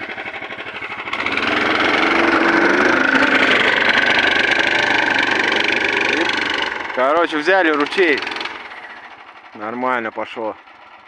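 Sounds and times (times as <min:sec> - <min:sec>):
snow tow engine running: 0:00.0 - 0:11.0.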